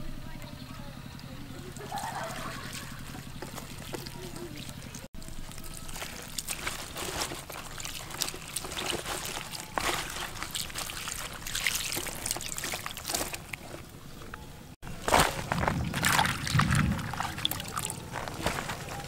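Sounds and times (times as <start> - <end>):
water trickling and splashing: 1.5 - 19.0
hands rubbing wet fruit: 1.6 - 19.0.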